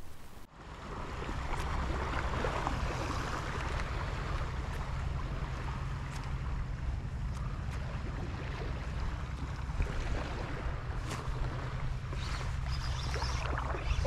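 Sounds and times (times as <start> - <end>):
water lapping at shoreline: 0.0 - 14.0.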